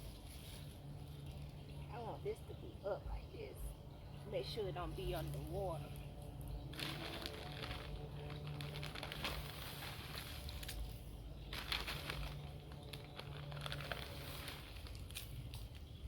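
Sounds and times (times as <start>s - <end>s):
plant leaves rustling and crinkling: 0.0s - 3.5s, 4.3s - 16.0s.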